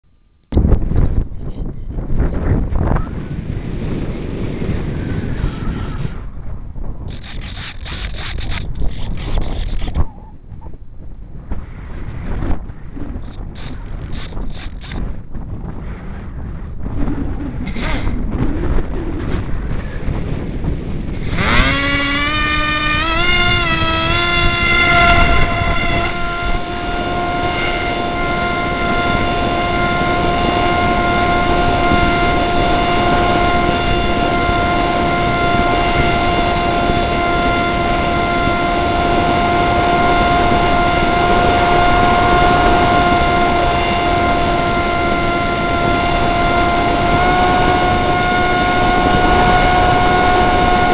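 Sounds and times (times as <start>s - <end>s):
electric motor and propeller whine: 0.2s - 10.8s, 11.5s - 50.9s
wind buffeting microphone: 0.5s - 50.9s.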